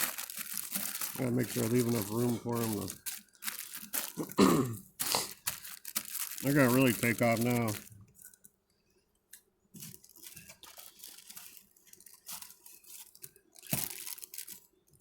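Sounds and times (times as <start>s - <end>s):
paper crinkling and tearing: 0.0s - 4.4s, 5.0s - 8.4s, 9.8s - 15.0s.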